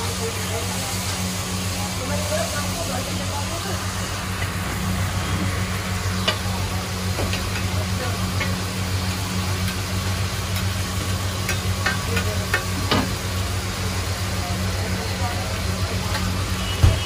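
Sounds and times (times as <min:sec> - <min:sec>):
burgers sizzling on a griddle: 0:00.0 - 0:17.0
steady low hum: 0:00.1 - 0:15.4.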